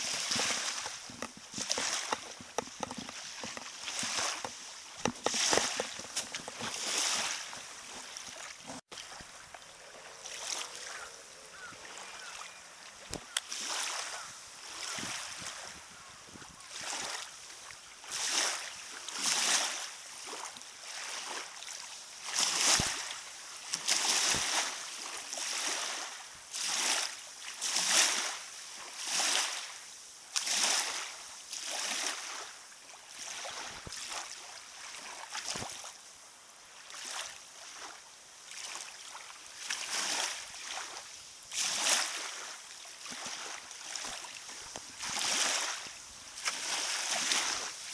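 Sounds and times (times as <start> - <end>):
small waves lapping at shore: 0.0 - 47.9.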